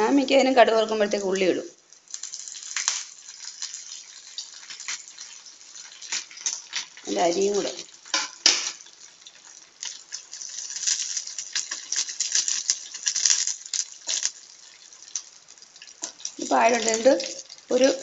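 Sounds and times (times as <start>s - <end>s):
spices sizzling and popping in oil: 0.0s - 18.0s.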